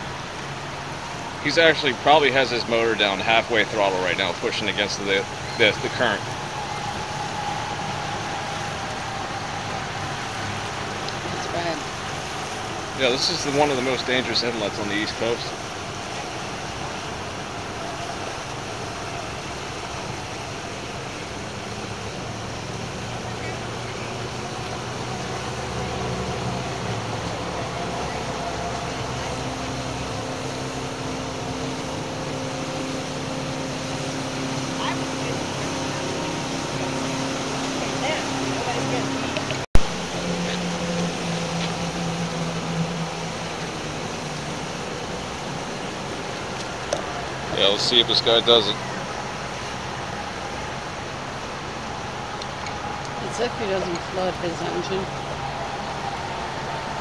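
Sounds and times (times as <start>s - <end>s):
outboard engine humming: 0.0s - 57.0s
tidal current rushing: 0.0s - 57.0s.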